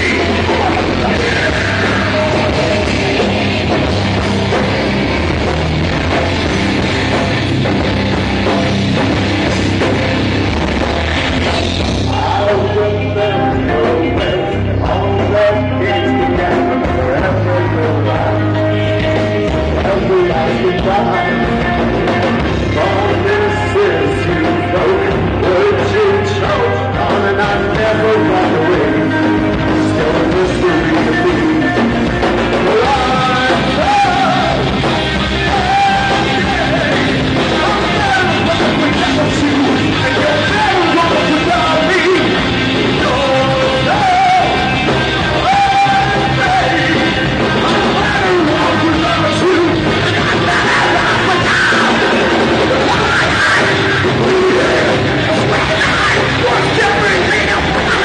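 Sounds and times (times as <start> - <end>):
person singing: 0.0 - 7.8, 8.4 - 58.0
rock band playing live: 0.0 - 58.0.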